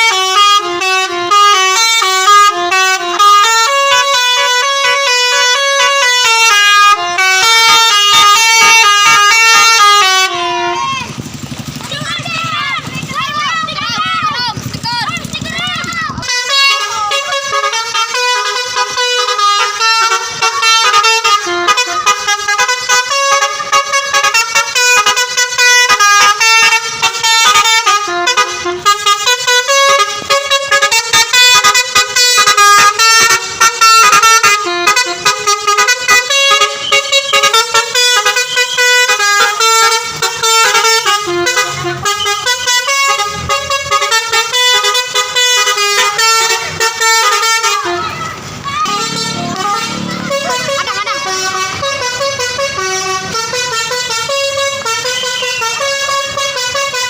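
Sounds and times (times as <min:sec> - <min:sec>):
musical horn playing a melody: 0:00.0 - 0:11.2, 0:16.2 - 0:57.0.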